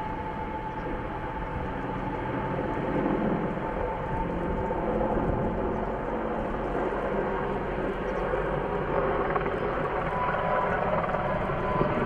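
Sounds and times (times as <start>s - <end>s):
helicopter rotor and turbine din: 0.0s - 12.0s.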